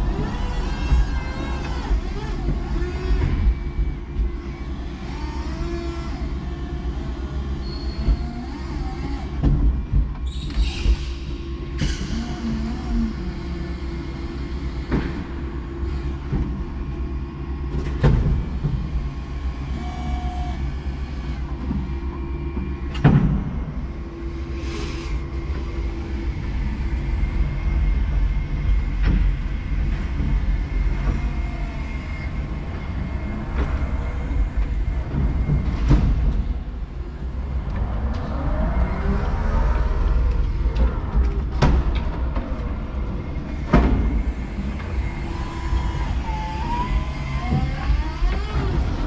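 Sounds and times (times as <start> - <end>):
forklift motors humming: 0.0 - 49.0.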